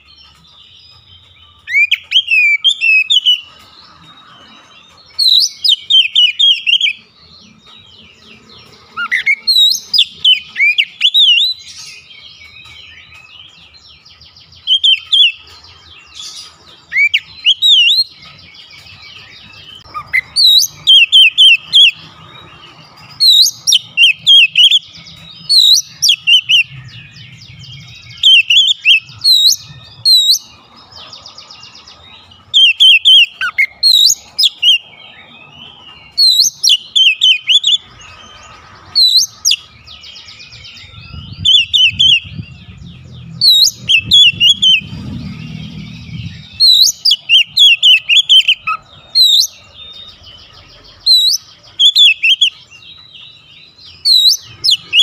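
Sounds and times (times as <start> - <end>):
bird singing: 0.0 - 55.0.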